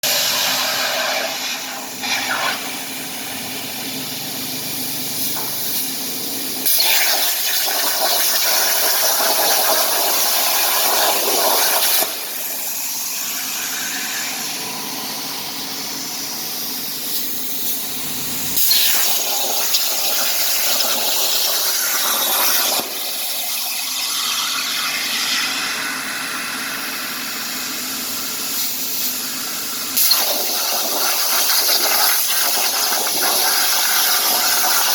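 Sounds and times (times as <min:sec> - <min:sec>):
plasma cutting torch hissing: 0:00.0 - 0:34.9.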